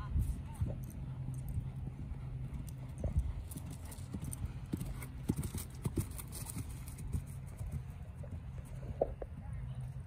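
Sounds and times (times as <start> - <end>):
hoofbeats on grass: 0.3 - 10.0.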